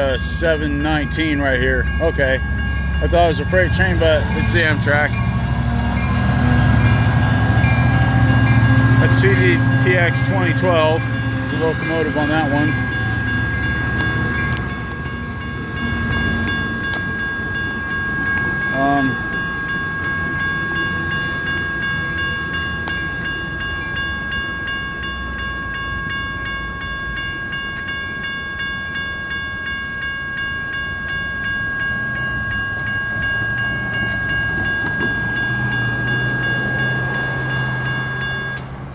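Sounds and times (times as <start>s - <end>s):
crossing warning bell ringing: 0.0s - 38.9s.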